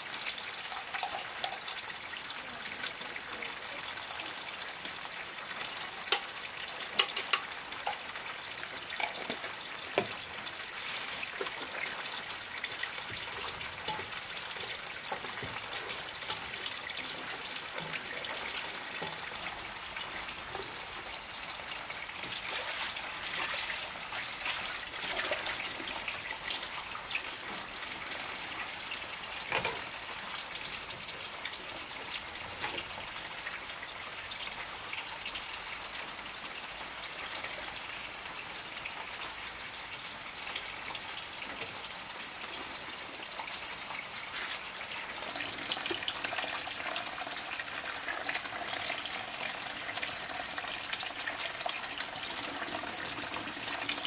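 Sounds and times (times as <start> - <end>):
trickling running water: 0.0 - 54.0.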